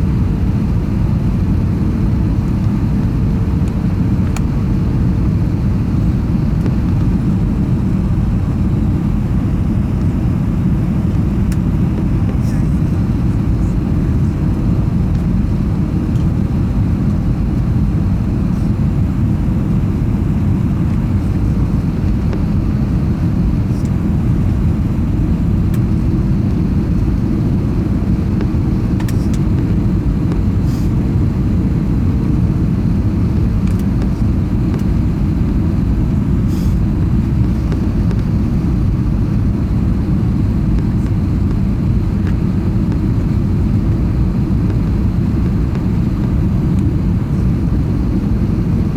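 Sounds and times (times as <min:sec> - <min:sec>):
airliner cabin rumble: 0:00.0 - 0:48.9
faint steady hum: 0:00.0 - 0:48.9.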